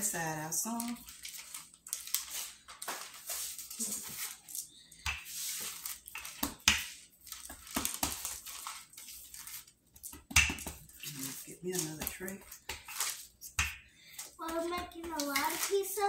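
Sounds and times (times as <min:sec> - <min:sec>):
rolling pin rolling over paper: 0:00.9 - 0:16.0.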